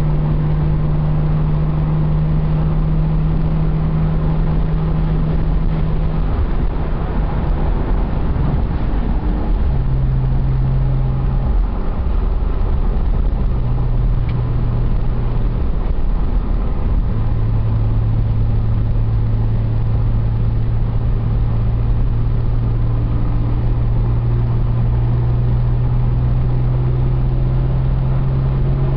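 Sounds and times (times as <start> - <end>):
car engine hum: 0.0 - 28.9
road noise inside car: 0.0 - 28.9.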